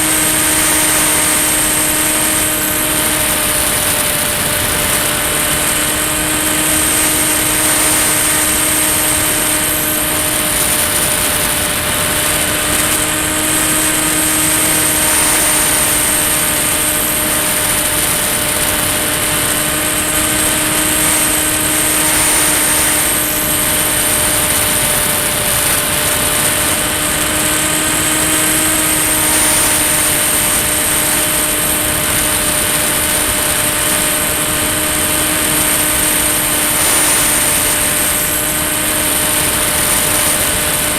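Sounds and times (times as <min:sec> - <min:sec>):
electric motor hum with high whine: 0:00.0 - 0:40.9.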